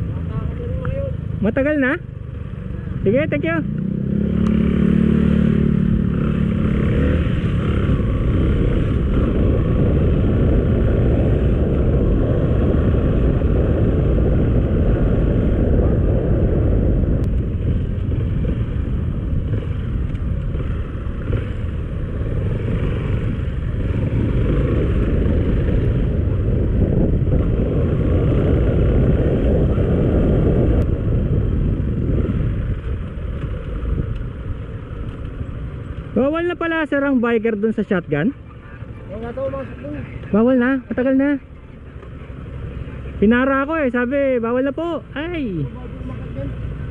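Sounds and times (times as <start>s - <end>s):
motorcycle engine humming: 0.0s - 46.9s.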